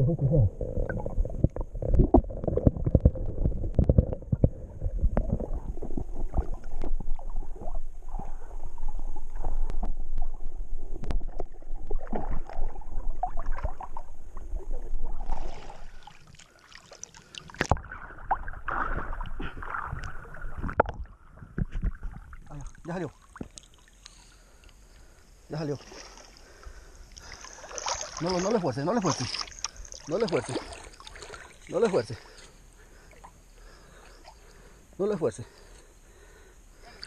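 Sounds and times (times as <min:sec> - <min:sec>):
water splashing and sloshing: 0:01.1 - 0:34.8.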